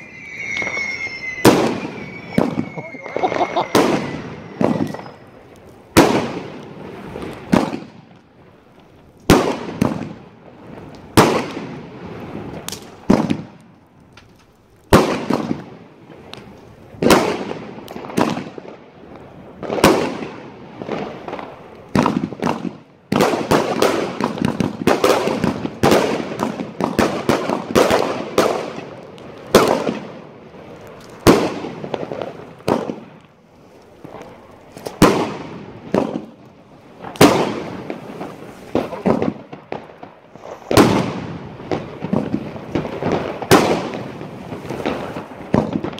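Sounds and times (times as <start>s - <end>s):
fireworks bangs with crackle: 0.0s - 45.9s.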